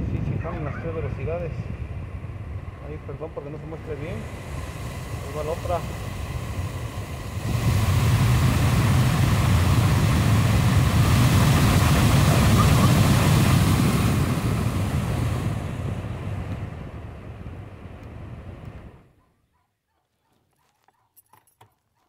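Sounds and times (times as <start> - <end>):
wind buffeting microphone: 0.0 - 19.0
electric fan motor rushing air: 0.0 - 19.1.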